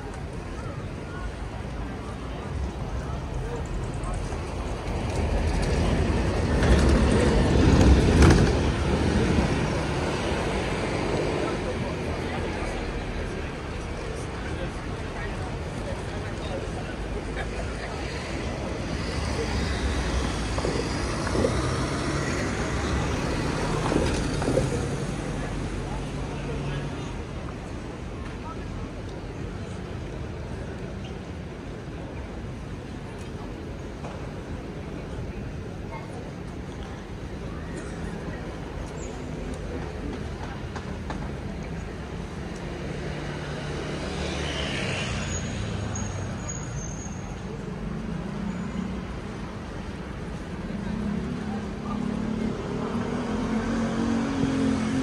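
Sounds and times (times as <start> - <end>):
people's voices: 0.0 - 55.0
traffic passing: 0.0 - 55.0
urban background noise: 0.0 - 55.0.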